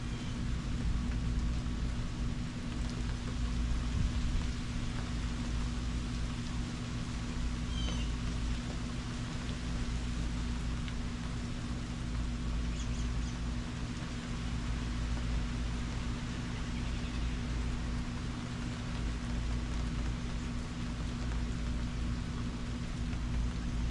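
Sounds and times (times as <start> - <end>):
low steady hum: 0.0 - 23.9
steady rain: 0.0 - 23.9.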